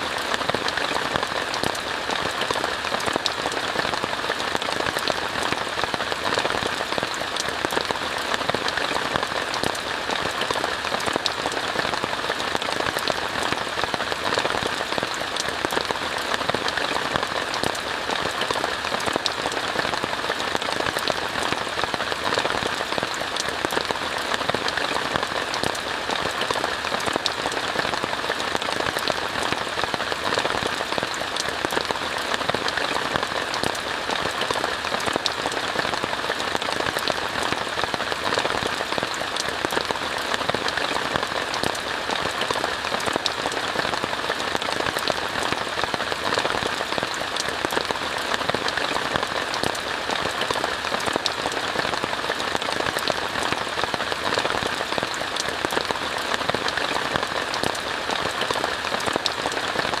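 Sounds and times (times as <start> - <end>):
rain on a tent: 0.0 - 60.0.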